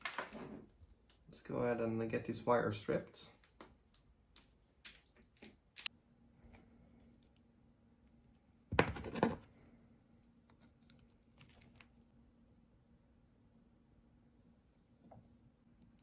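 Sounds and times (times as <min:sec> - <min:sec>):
faint steady hum: 0:00.1 - 0:16.0.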